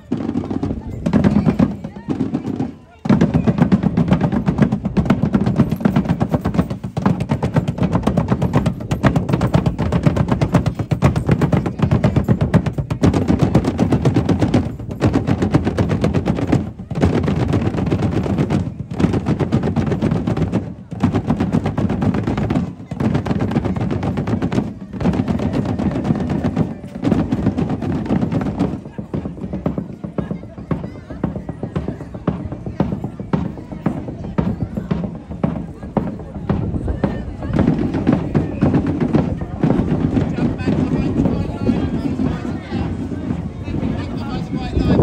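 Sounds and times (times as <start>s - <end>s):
drum band playing fast rhythm: 0.0s - 45.0s.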